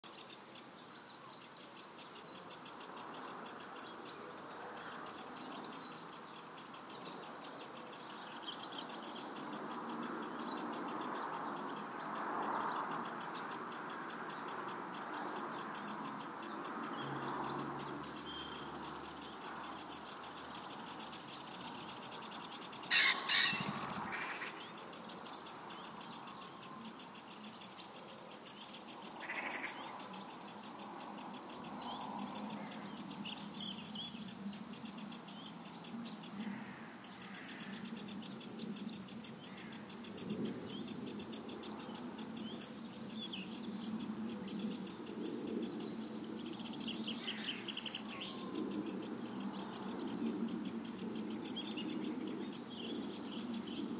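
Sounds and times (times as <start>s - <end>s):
birds twittering: 0.0s - 53.9s
loud bird calls: 1.1s - 53.9s.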